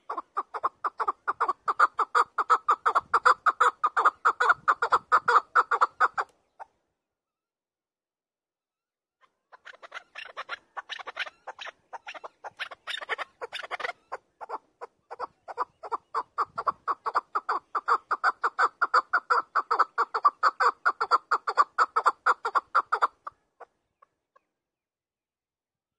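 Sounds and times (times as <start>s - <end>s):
partridge clucking calls: 0.0s - 6.8s, 9.2s - 24.5s.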